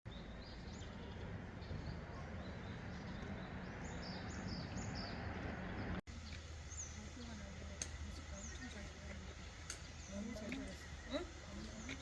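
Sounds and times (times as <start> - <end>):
small songbirds chirping: 0.1 - 12.0.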